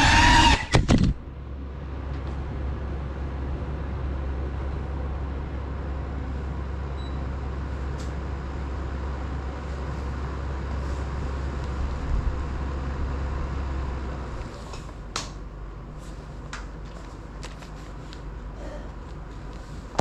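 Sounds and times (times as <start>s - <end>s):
fan blowing air: 0.0s - 20.0s.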